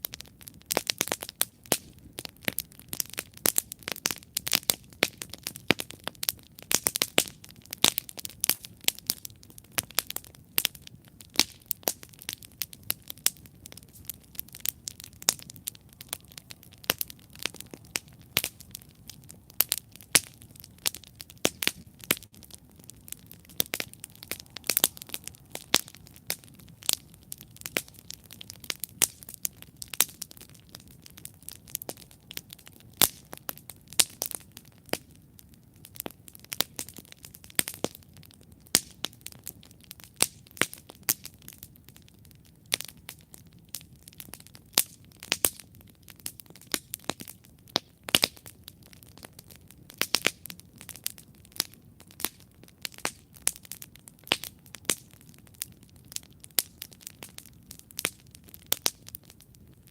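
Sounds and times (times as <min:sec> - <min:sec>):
campfire crackling: 0:00.0 - 0:59.9
low rumble of flame: 0:00.0 - 0:59.9.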